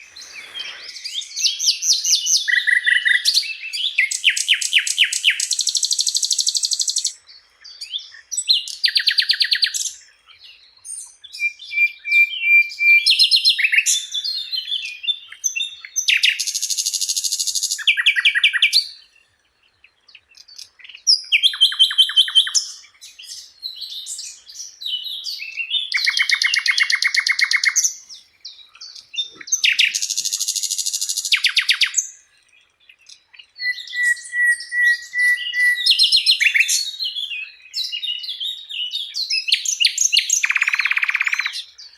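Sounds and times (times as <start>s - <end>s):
flycatcher singing trills: 0.0s - 41.9s.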